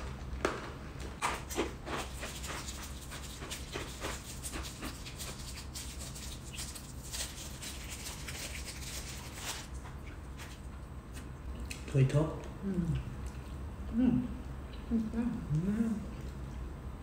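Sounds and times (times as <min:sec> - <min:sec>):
eating noises: 0:00.4 - 0:17.0.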